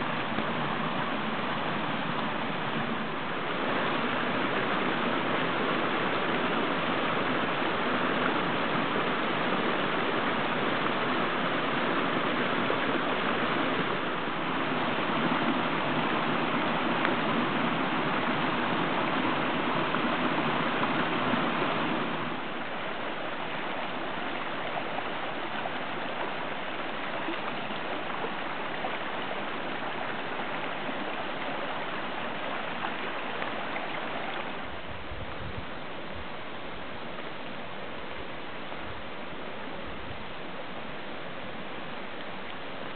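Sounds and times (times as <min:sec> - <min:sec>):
water pouring over rocks: 0:00.0 - 0:34.8
shallow water streaming: 0:00.0 - 0:42.9.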